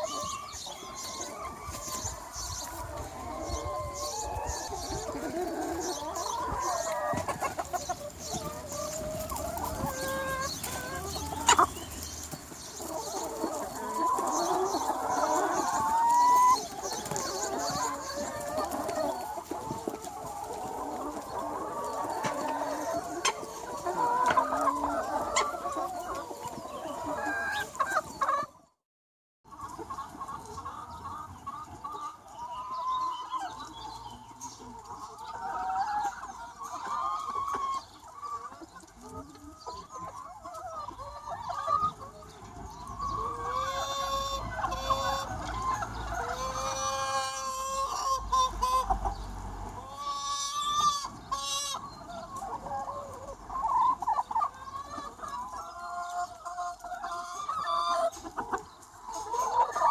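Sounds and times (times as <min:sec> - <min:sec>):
hens clucking and calling: 0:00.0 - 0:28.8, 0:29.5 - 0:59.9.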